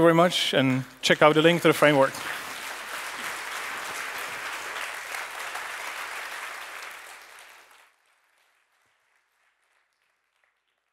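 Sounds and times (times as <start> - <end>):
audience applauding: 1.2 - 10.9.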